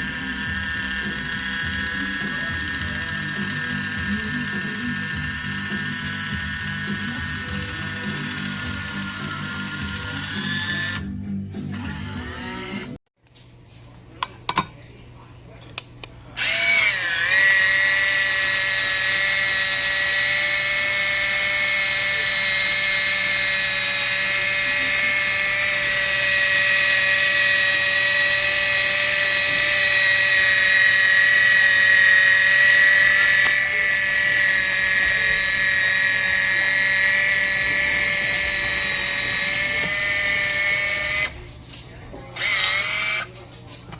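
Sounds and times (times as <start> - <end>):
electric can opener motor whine: 0.0 - 13.0, 16.4 - 41.5, 42.4 - 43.3.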